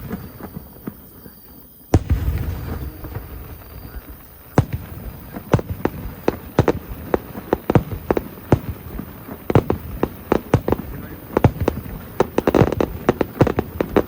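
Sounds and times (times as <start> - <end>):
fireworks bangs and pops: 0.0 - 14.0.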